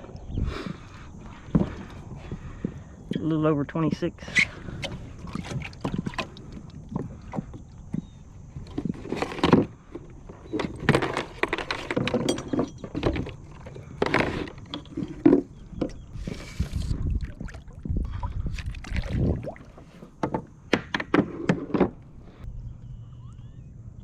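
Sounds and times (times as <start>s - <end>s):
water sloshing against hull: 0.0s - 20.7s
knocks and scrapes on kayak: 1.2s - 3.0s, 4.2s - 22.4s.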